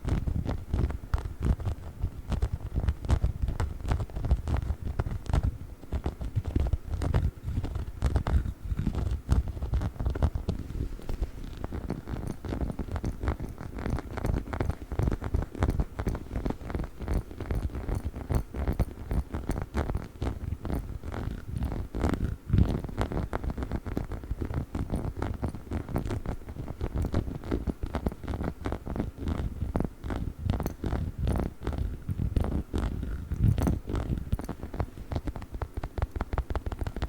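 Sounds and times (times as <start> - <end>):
chew toy being scratched and rubbed: 2.3 - 35.4.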